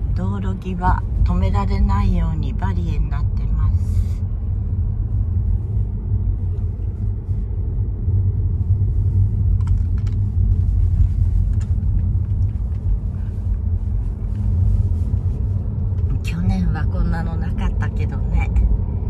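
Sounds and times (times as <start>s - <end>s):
road and tyre rumble: 0.0s - 19.0s.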